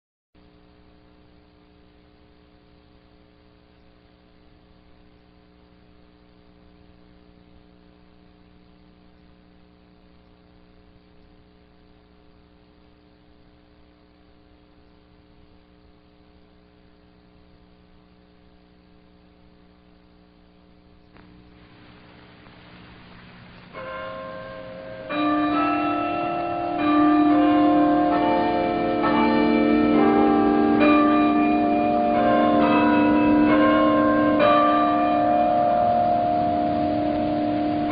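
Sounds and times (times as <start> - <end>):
electrical mains hum: 0.4 - 37.9
low hiss: 0.4 - 37.9.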